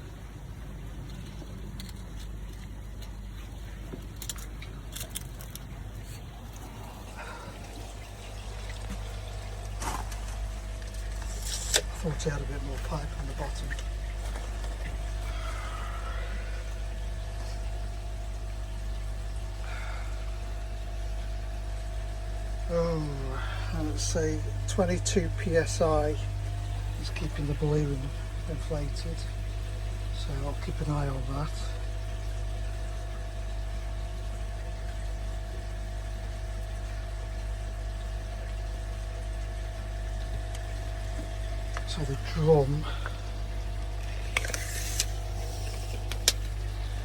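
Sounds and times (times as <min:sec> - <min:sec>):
pump humming: 0:00.0 - 0:47.0
running water: 0:00.0 - 0:47.0.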